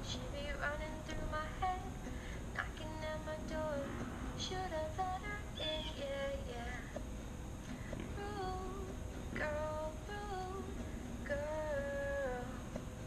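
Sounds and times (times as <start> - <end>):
woman singing slow melody: 0.0 - 7.0, 7.9 - 13.0.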